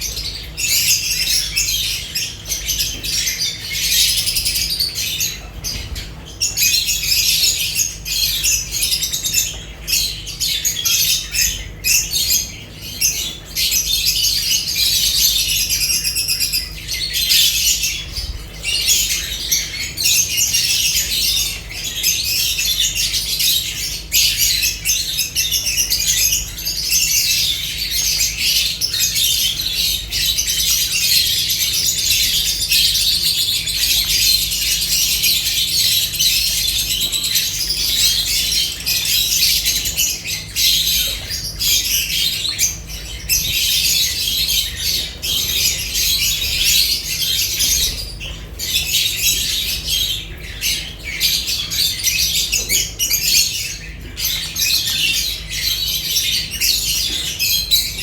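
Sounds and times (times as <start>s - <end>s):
lovebirds chattering and squawking: 0.0s - 58.0s.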